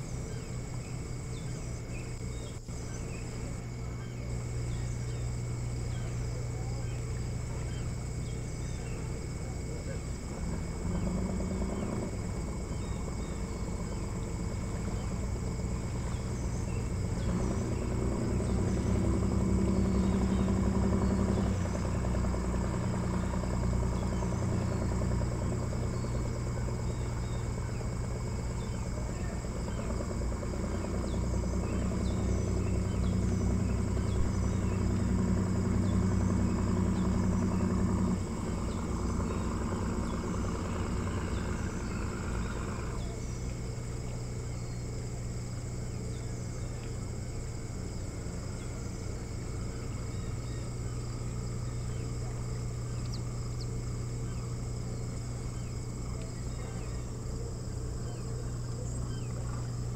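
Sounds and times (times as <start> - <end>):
distant motor running: 0.0 - 59.9
insects chirping: 0.0 - 59.9
steady low hum: 0.0 - 59.9.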